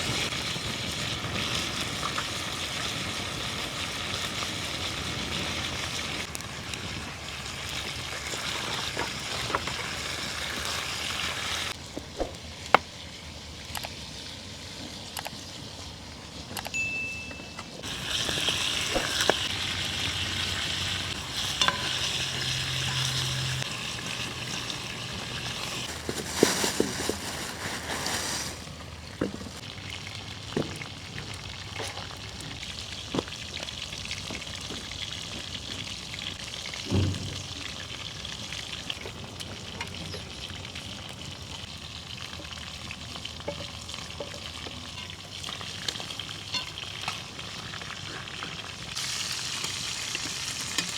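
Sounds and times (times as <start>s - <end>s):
food sizzling in a pan: 0.0s - 11.8s, 17.8s - 50.9s.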